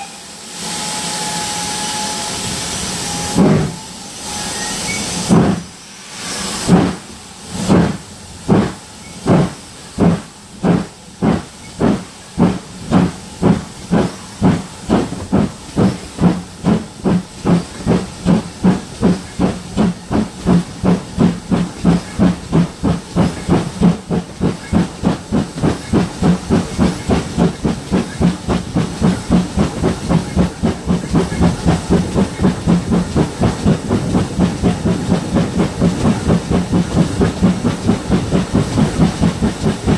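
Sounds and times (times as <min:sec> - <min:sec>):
steam hiss: 0:00.0 - 0:39.9
steam locomotive chuffing: 0:00.0 - 0:39.9.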